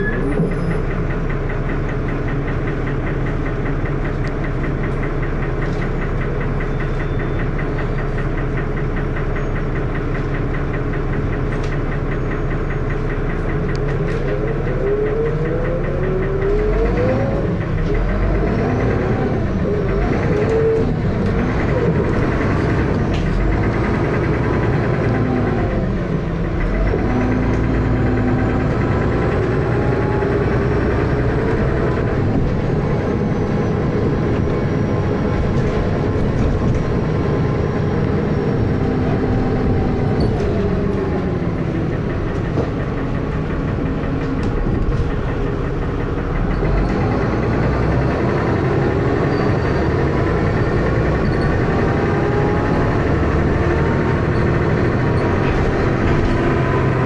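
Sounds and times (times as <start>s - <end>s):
bus engine running hard: 0.0s - 57.0s
loud engine knocking: 0.0s - 57.0s.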